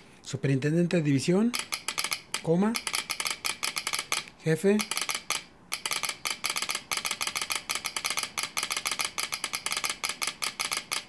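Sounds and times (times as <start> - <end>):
telegraph sounder clicking morse code: 1.5 - 4.2, 4.8 - 11.0.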